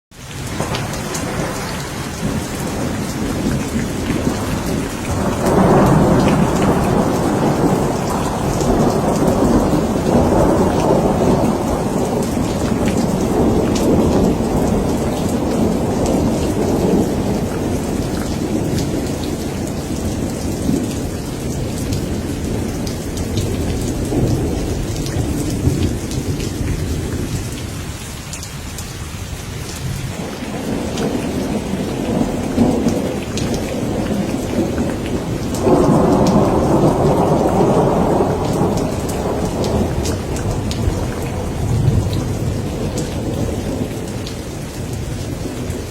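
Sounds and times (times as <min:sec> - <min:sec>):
heavy rain: 0:00.1 - 0:45.9
rolling thunder: 0:00.4 - 0:28.0, 0:29.3 - 0:45.9.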